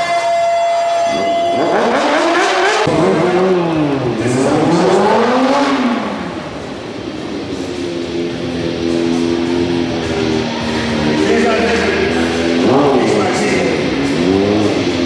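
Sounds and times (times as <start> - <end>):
motorcycle engine revving: 1.1 - 15.0.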